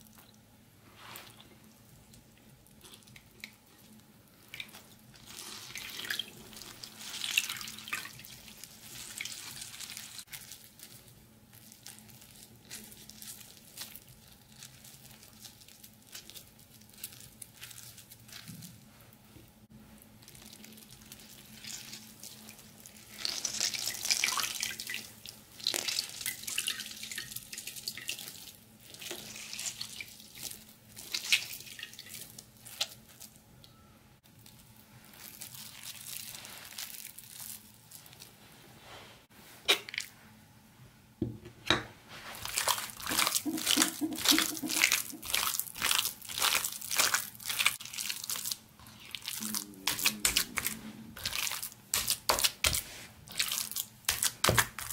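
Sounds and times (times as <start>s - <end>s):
wet squelching of food: 1.0s - 19.0s, 20.0s - 33.3s, 34.4s - 38.3s, 42.1s - 54.9s.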